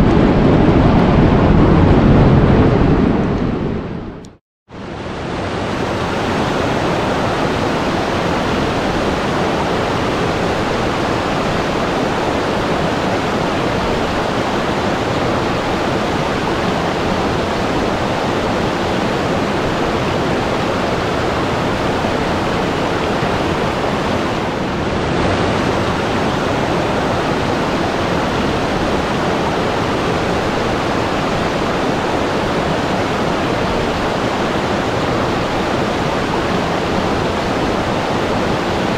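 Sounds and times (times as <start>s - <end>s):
rushing water: 4.8s - 38.9s.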